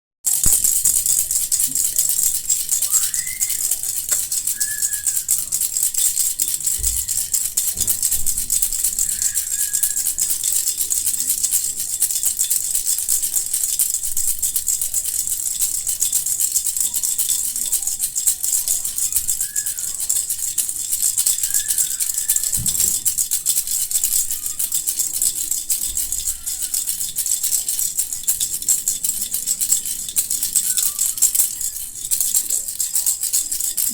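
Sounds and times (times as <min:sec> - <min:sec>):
baby rattle shaking: 0:00.3 - 0:33.9.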